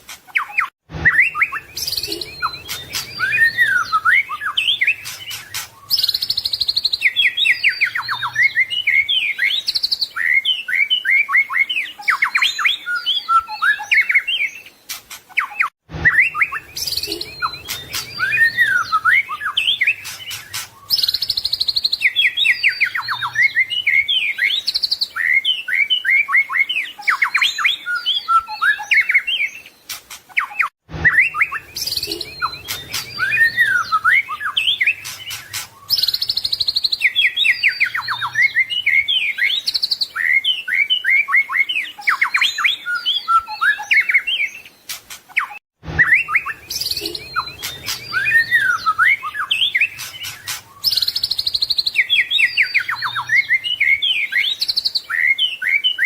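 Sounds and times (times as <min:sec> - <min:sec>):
bird singing whistles and trills: 0:00.3 - 0:56.0.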